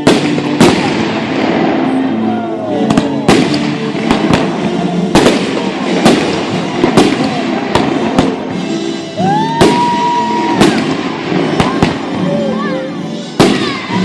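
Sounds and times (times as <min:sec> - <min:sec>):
fireworks bangs: 0:00.0 - 0:02.2, 0:02.8 - 0:08.7, 0:09.4 - 0:12.3, 0:13.3 - 0:14.0
music playing: 0:00.0 - 0:14.0.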